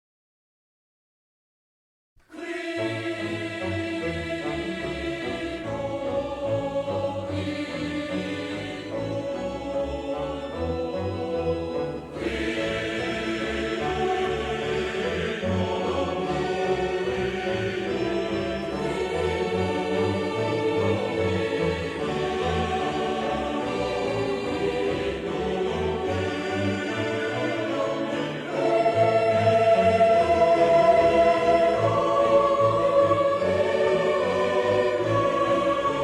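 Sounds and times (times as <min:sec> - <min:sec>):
choir-like voices: 0:02.3 - 0:36.0.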